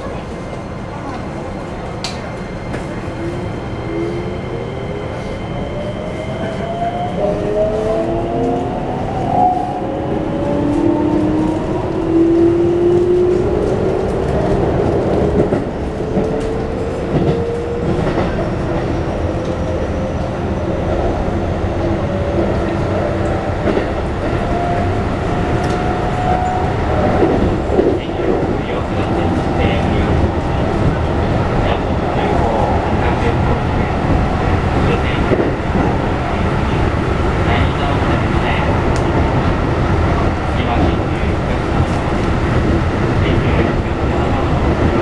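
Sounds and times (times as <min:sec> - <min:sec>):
wheels rumbling on rails: 0:00.0 - 0:45.0.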